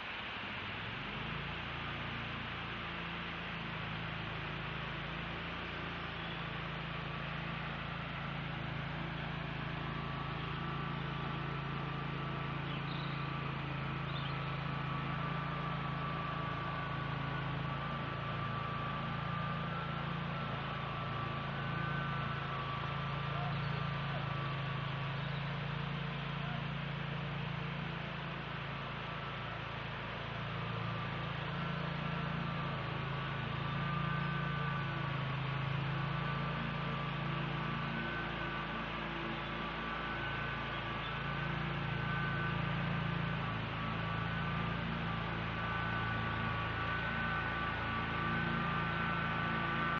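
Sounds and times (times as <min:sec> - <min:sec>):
water rushing through flood gate: 0:00.0 - 0:49.9.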